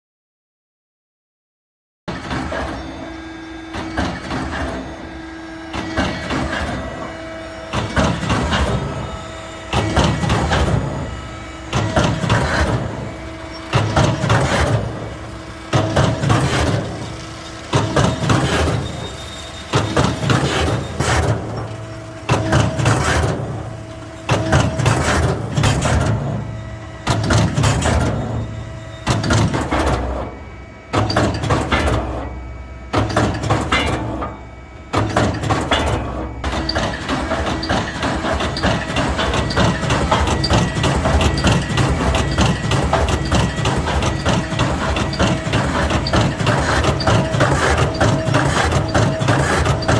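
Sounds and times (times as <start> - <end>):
machine clatter and knocks: 2.1 - 4.9, 5.7 - 49.9.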